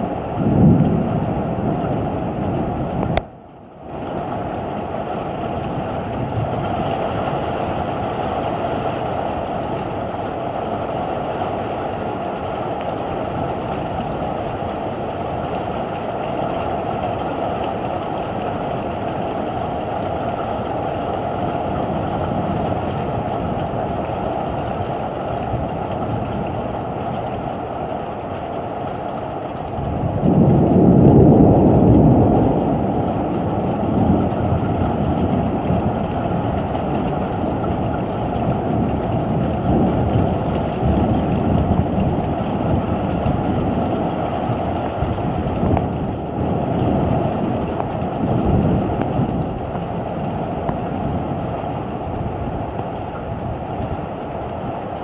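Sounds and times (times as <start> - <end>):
heavy rain downpour: 0.0 - 55.0
low thunder rumble: 0.0 - 55.0
wind: 0.0 - 55.0.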